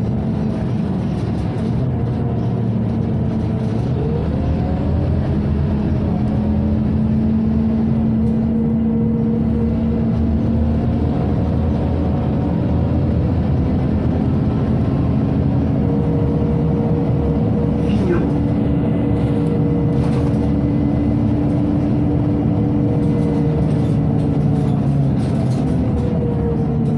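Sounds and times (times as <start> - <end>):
bus engine humming: 0.0 - 26.9.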